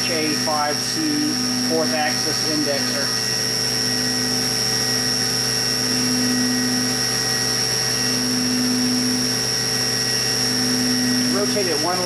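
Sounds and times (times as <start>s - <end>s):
milling machine high whine: 0.0s - 12.0s.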